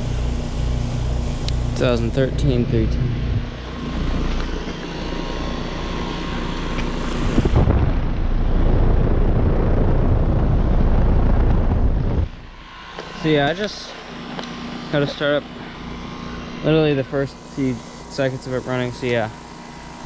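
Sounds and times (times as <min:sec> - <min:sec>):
heat pump hum and fan rush: 0:00.0 - 0:20.0.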